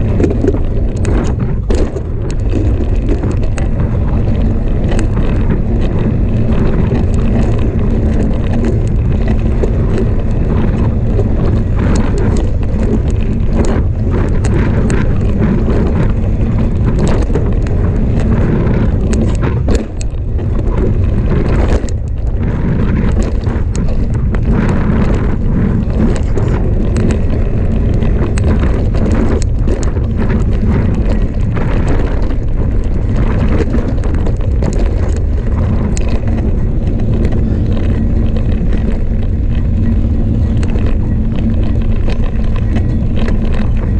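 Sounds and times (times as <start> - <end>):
bike rattles and clicks: 0.0 - 43.9
tyres rumbling on dirt: 0.0 - 43.9
wind buffeting microphone: 0.0 - 43.9.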